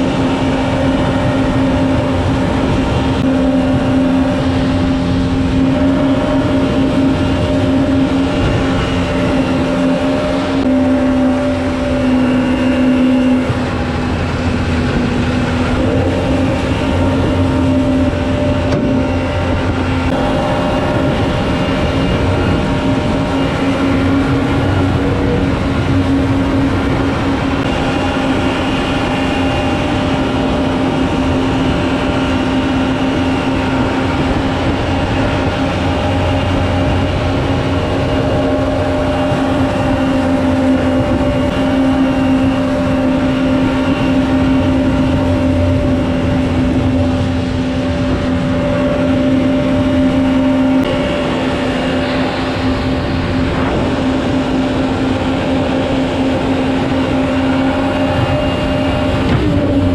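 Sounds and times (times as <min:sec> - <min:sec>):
boat engine and water jet: 0:00.0 - 0:59.9
river water rushing past hull: 0:00.0 - 0:59.9.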